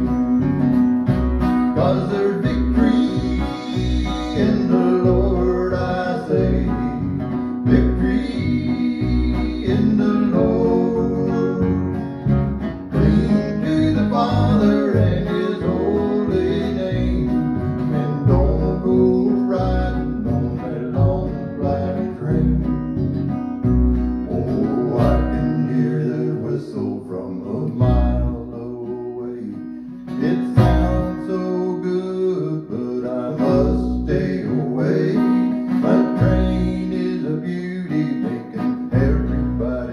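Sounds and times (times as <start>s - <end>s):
man singing: 0.0s - 0.9s, 1.7s - 12.0s, 12.9s - 23.0s, 24.2s - 39.9s
plucked upright bass: 0.0s - 29.4s, 30.2s - 39.9s
strummed acoustic guitar: 0.0s - 39.9s.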